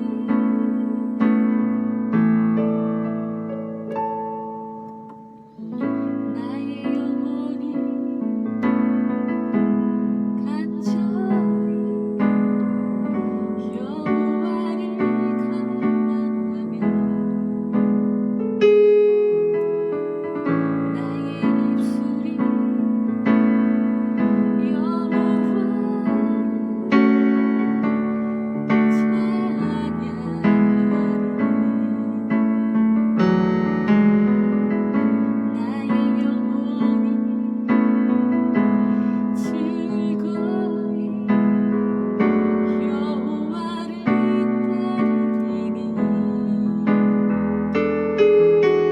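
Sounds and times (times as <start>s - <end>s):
piano playing slow hymn chords: 0.0s - 48.9s.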